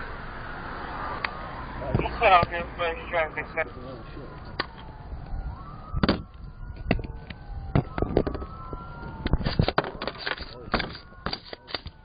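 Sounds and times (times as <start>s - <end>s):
police sirens wailing: 0.0s - 12.0s.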